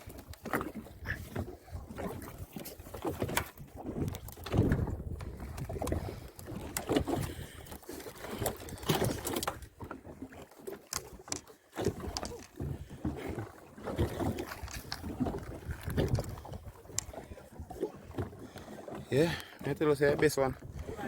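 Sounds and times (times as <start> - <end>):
knocks and rattles on a boat: 0.0 - 21.0
water splashing: 0.0 - 21.0.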